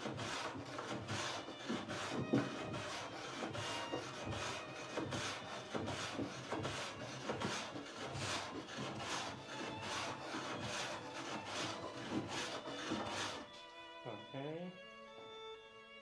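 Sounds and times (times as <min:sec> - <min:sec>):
sanding wooden door by hand: 0:00.0 - 0:13.5.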